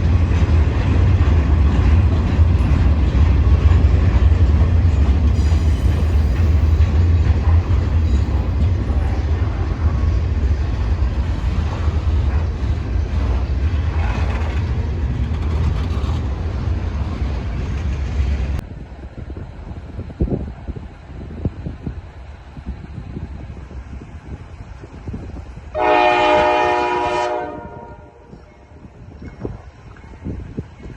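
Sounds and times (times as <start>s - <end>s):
train rumbling past: 0.0s - 30.9s.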